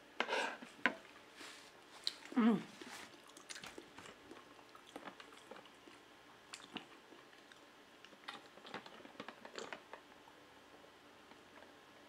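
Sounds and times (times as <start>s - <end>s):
quiet chewing: 0.6s - 11.8s.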